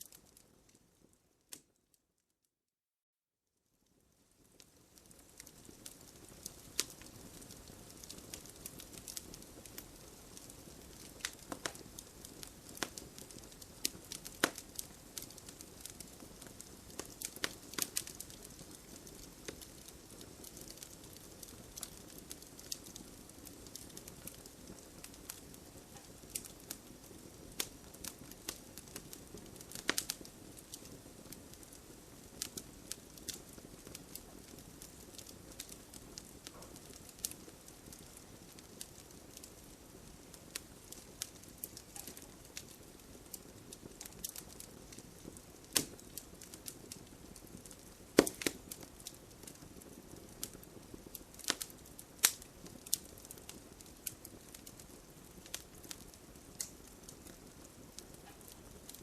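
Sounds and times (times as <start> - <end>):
campfire crackling and popping: 0.0 - 1.8, 3.9 - 59.0
campfire hissing: 4.4 - 59.0.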